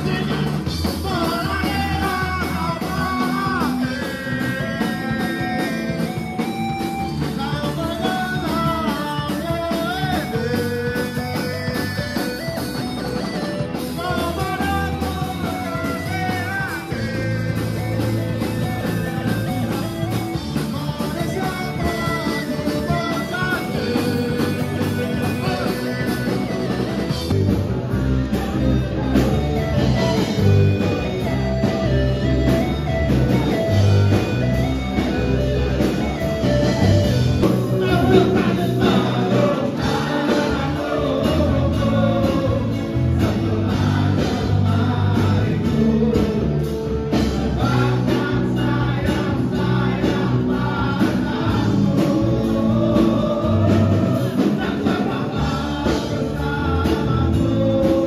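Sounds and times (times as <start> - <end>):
person singing: 0.0 - 58.0
rock song with guitar and drums: 0.0 - 58.0.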